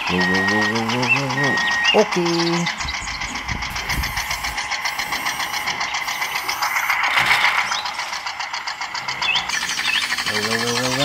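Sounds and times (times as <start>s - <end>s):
small electric motor whirring: 0.0s - 11.0s.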